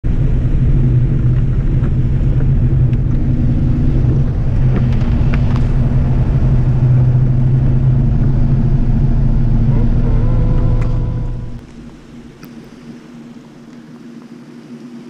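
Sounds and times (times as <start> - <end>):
car engine running: 0.0 - 13.8.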